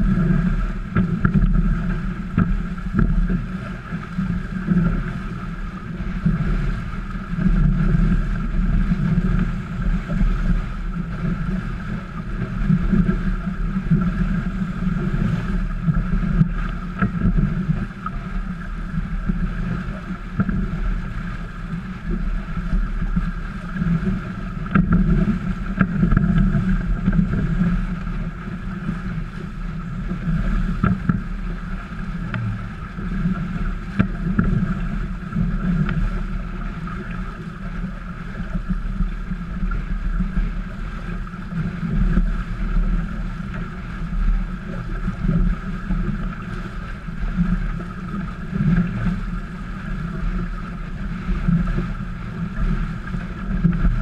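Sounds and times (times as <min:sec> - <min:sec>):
water rushing past hull: 0:00.0 - 0:54.0
wind buffeting microphone: 0:00.0 - 0:54.0.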